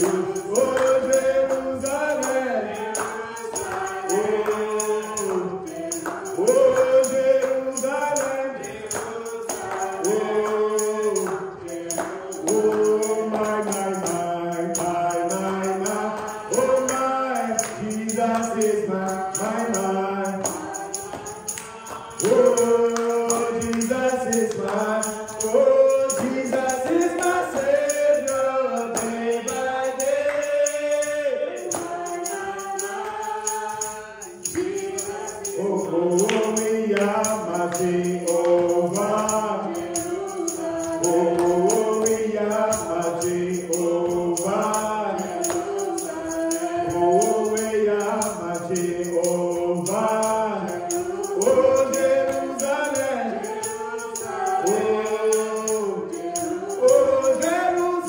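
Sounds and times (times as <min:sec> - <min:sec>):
group singing worship song: 0:00.0 - 0:58.0
percussion beat: 0:00.0 - 0:58.0.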